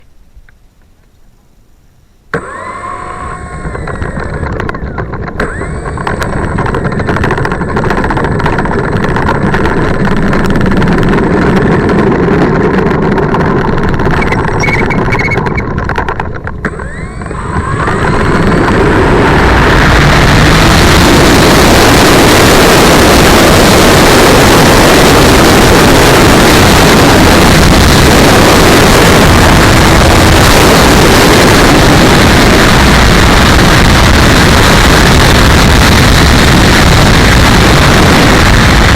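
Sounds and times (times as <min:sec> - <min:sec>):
model plane motor whining: 0:02.3 - 0:38.9.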